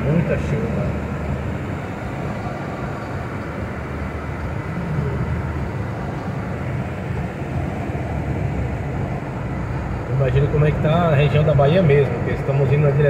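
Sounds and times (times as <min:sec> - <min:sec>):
tyres rumbling on wet road: 0:00.0 - 0:13.0.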